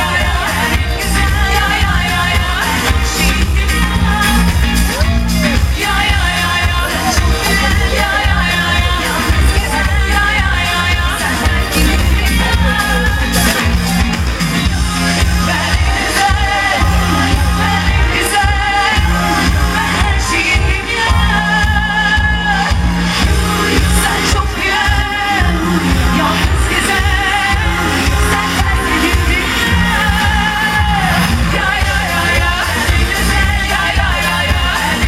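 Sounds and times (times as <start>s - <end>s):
amplified band playing: 0.0s - 35.0s
heavy bass beat: 0.0s - 35.0s
woman singing into a microphone: 0.0s - 35.0s.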